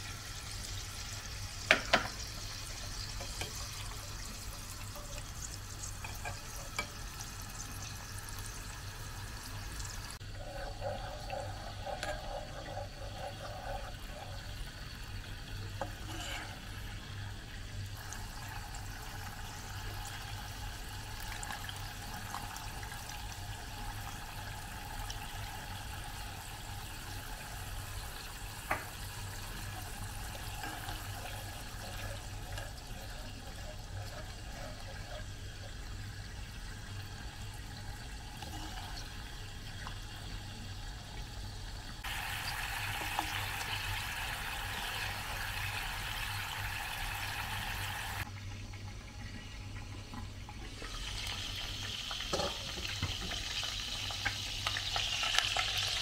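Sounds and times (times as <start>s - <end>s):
chicken frying in oil: 0.0s - 56.0s
sauce bubbling in saucepan: 0.0s - 56.0s.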